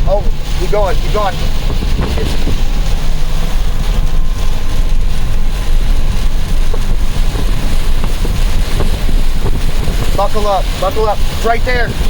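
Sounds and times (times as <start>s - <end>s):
car driving through storm: 0.0s - 12.0s
wind buffeting microphone: 0.0s - 12.0s.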